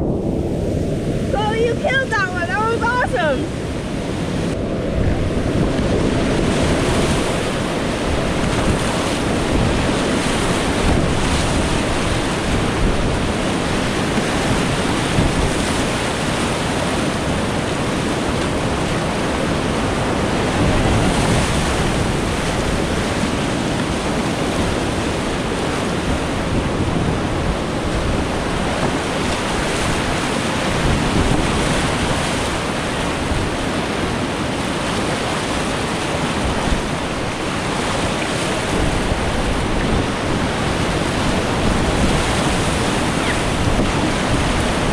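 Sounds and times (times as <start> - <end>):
whitewater rapids rushing: 0.0 - 44.9.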